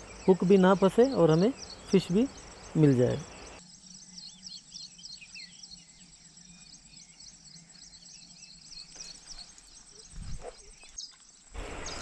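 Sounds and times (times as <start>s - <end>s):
high-pitched insect trill: 0.0s - 12.0s
small birds chirping: 0.0s - 12.0s.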